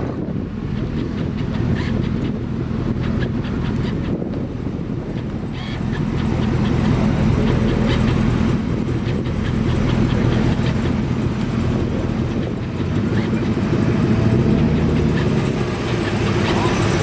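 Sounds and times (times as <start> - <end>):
car engine exhaust rumble: 0.0 - 17.0.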